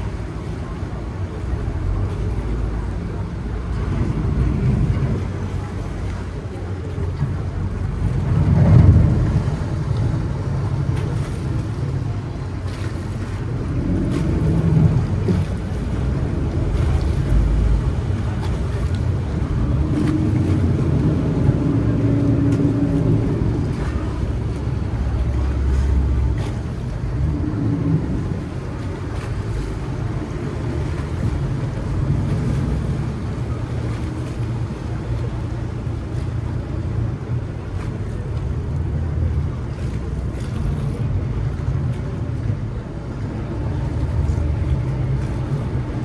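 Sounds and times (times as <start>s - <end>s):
motorboat engines humming: 0.0s - 46.0s
water wash: 0.0s - 46.0s.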